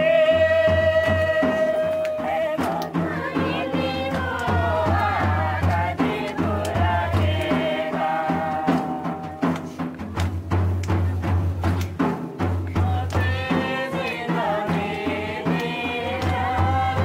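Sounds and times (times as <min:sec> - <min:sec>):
women singing together: 0:00.0 - 0:09.6, 0:12.8 - 0:17.0
low drum beating: 0:00.0 - 0:17.0.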